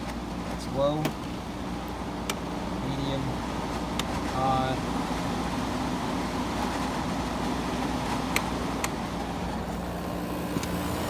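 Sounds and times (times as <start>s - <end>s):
air conditioner blowing hum: 0.0s - 11.0s.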